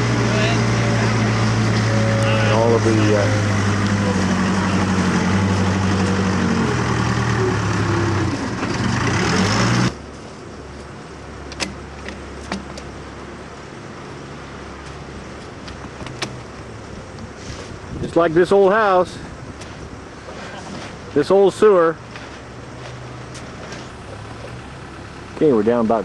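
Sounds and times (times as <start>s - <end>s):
excavator engine running: 0.0s - 18.0s, 19.2s - 26.0s.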